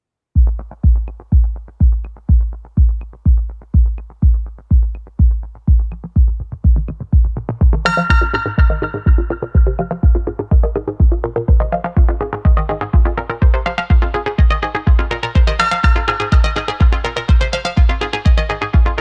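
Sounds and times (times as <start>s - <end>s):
deep kick drum: 0.4s - 19.0s
synth chords: 0.4s - 19.0s.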